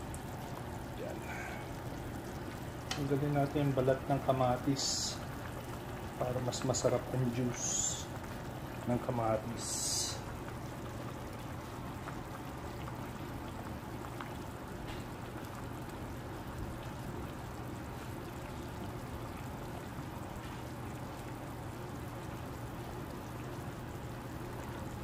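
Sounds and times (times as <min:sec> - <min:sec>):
constant low hum: 0:00.0 - 0:25.0
soup boiling and bubbling: 0:00.0 - 0:25.0.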